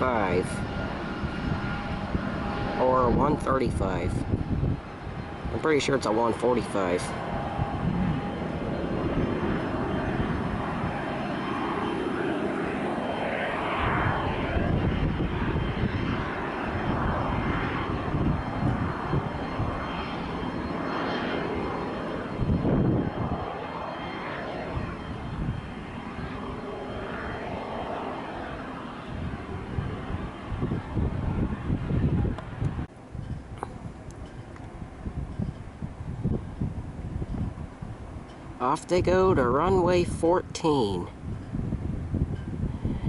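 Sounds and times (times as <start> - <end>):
jet engine drone: 0.0 - 43.0.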